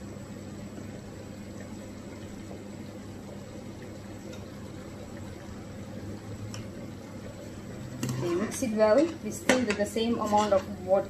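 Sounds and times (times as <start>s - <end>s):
faint steady hum: 0.0s - 11.0s
pan simmering: 0.0s - 11.0s.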